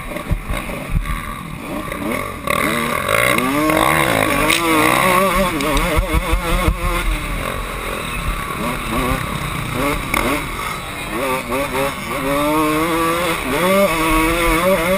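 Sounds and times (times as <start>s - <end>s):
two-stroke motorcycle engine revving: 0.0s - 14.9s.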